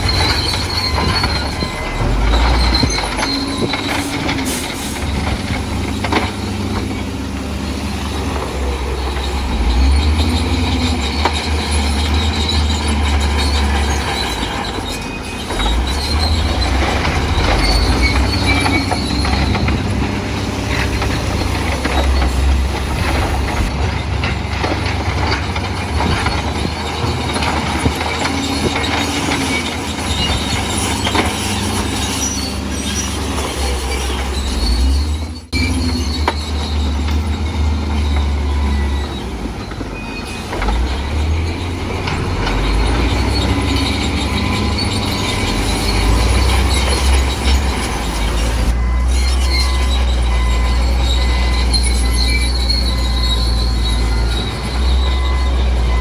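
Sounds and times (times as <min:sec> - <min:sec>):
bulldozer diesel engine rumbling: 0:00.0 - 0:56.0
crawler tracks squealing and clattering: 0:00.0 - 0:56.0.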